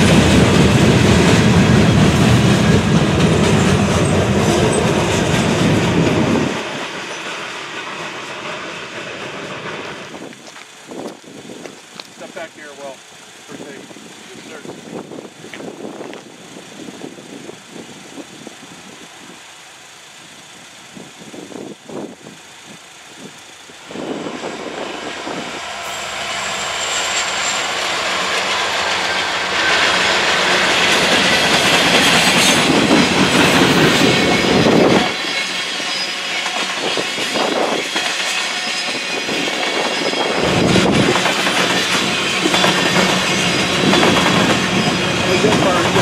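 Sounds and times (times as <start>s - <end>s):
freight train passing on rails: 0.0s - 46.0s.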